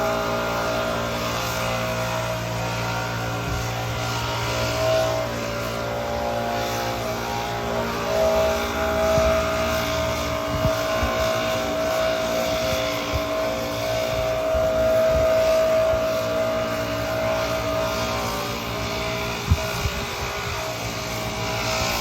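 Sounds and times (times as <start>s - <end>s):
engine running: 0.0s - 22.0s
high even whine: 0.0s - 22.0s.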